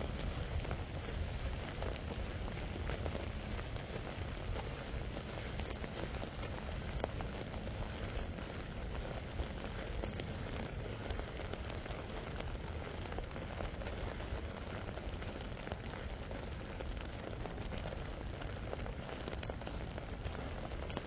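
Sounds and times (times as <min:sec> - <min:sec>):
rain on an umbrella: 0:00.0 - 0:21.0.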